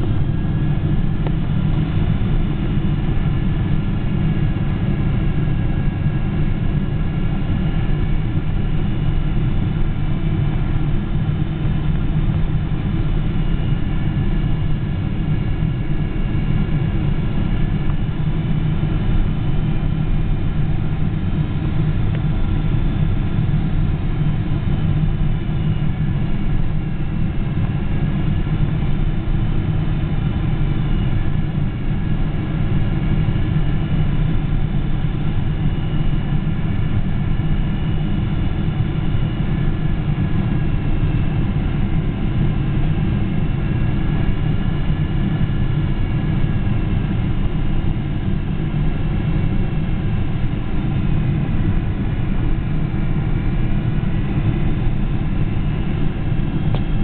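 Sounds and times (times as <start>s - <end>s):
deep rumble of engines and airflow: 0.0s - 57.0s
faint high engine whines: 0.0s - 57.0s.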